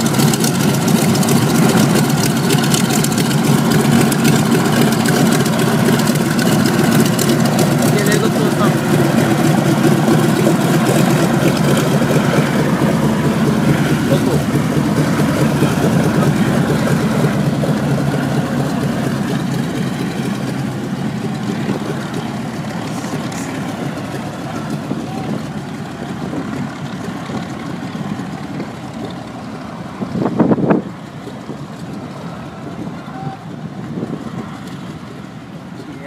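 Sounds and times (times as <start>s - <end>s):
propeller aircraft engines droning: 0.0s - 36.0s.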